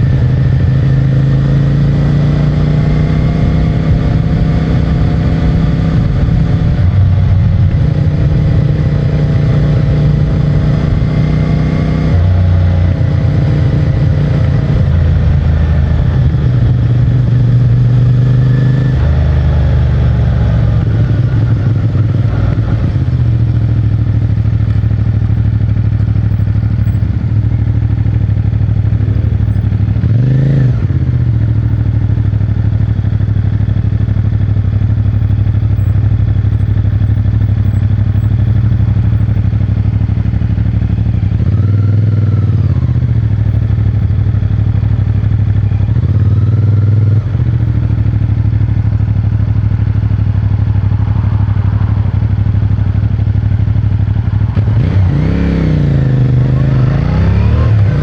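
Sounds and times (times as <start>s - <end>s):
motorcycle engine and exhaust running: 0.0s - 58.0s.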